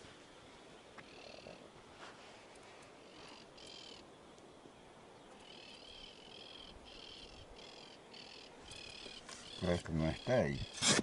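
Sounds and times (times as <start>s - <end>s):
soft outdoor hiss: 0.0s - 11.0s.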